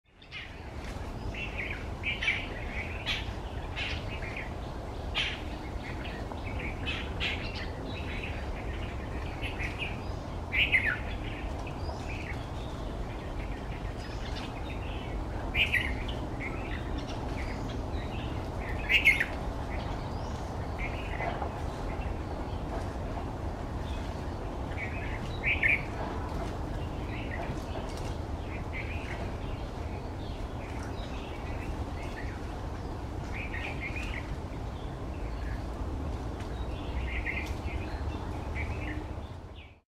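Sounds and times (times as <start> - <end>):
birds chirping: 0.1 - 39.8
wind rumble on microphone: 0.1 - 39.8.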